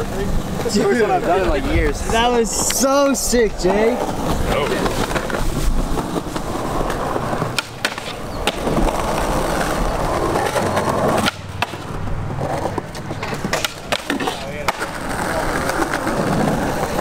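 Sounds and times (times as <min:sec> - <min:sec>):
skateboard clacking: 0:00.0 - 0:17.0
skateboard wheels rolling on concrete: 0:00.0 - 0:17.0.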